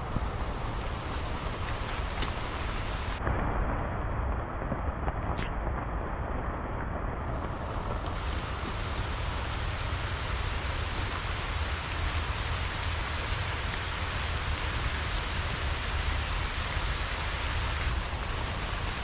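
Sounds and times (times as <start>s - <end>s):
deep rumble: 0.0s - 19.0s
steady rain falling: 0.0s - 19.0s.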